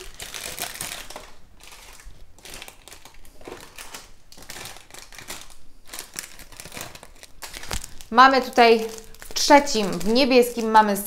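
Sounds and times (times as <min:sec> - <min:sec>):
plastic wrappers rustling: 0:00.0 - 0:11.0.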